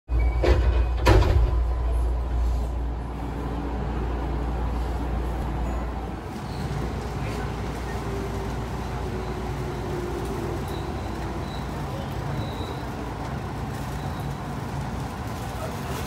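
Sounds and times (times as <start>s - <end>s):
train wheels rumbling on track: 0.2s - 16.0s.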